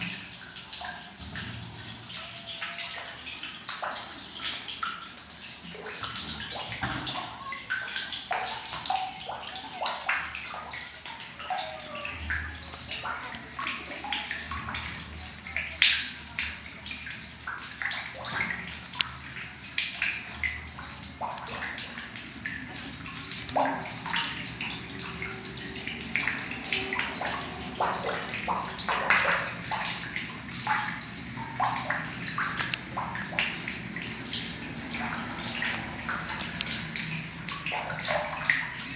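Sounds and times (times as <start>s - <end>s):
water trickling and dripping: 0.0s - 38.9s.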